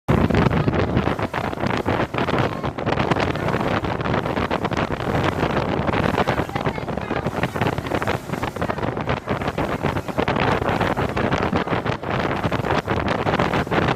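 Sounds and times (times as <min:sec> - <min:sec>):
boat hull noise: 0:00.1 - 0:13.9
motorboat engine: 0:00.1 - 0:13.9
wind buffeting microphone: 0:00.1 - 0:13.9.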